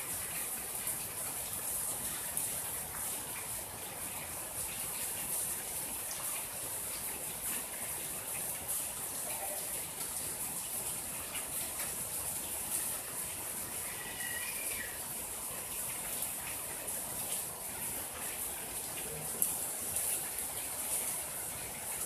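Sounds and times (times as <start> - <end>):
patter of raindrops: 0.0 - 22.0
rain falling: 0.0 - 22.0.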